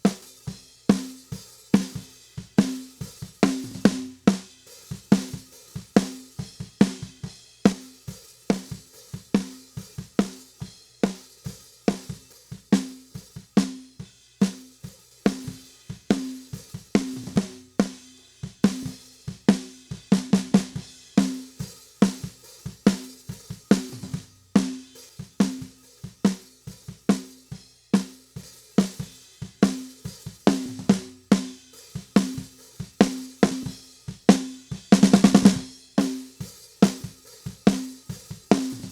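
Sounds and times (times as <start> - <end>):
drum kit playing a groove: 0.0 - 38.9.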